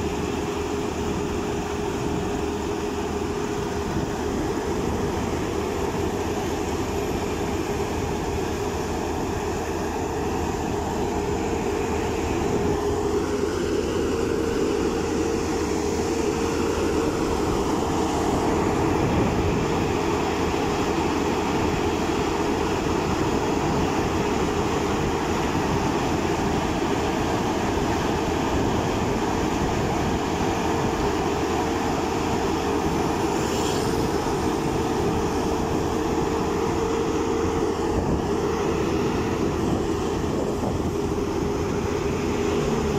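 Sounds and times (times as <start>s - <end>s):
asphalt paver engine drone: 0.0s - 42.9s.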